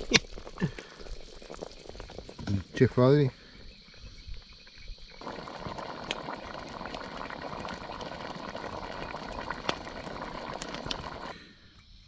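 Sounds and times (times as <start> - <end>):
stew bubbling in a pot: 0.0 - 11.4.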